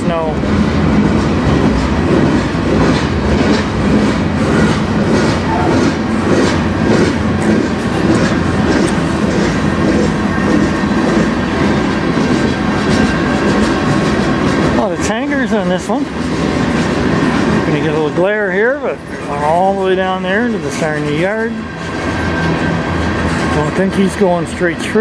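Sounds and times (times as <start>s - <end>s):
freight train rumble: 0.0s - 25.0s
train wheels clacking on rails: 0.0s - 25.0s.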